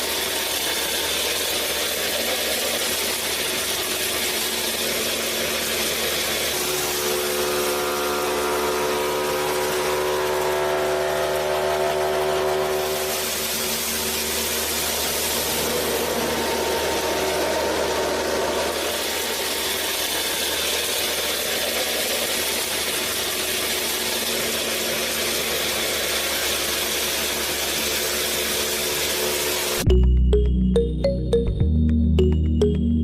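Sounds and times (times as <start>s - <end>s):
flour mill motor whirring: 0.0s - 29.9s.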